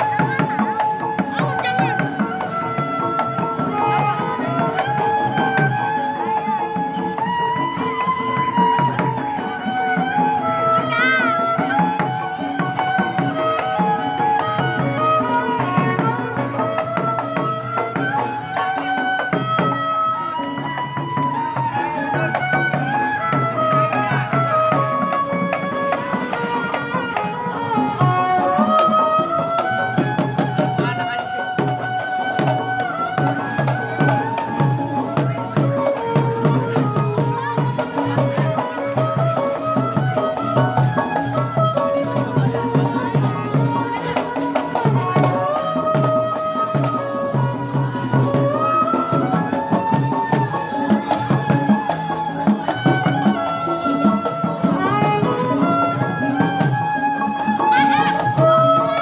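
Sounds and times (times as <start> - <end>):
hand drums: 0.0 - 59.0
metal percussion: 0.0 - 59.0.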